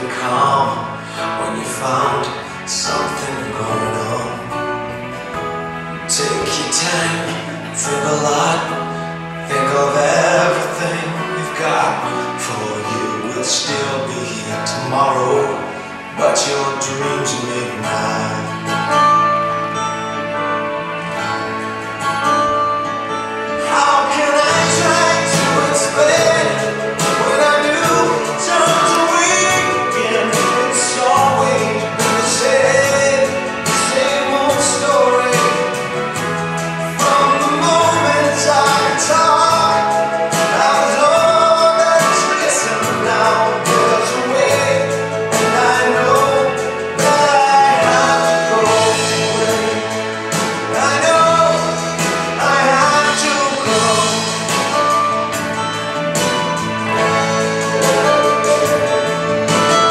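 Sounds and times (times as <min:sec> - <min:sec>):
pop ballad with singing: 0:00.0 - 0:59.9.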